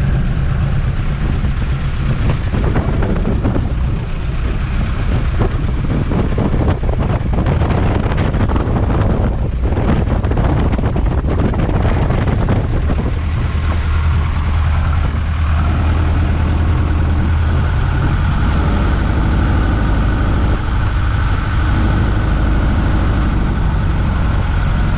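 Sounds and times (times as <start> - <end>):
rushing noise: 0.0 - 24.9
small plane engine running: 0.0 - 24.9.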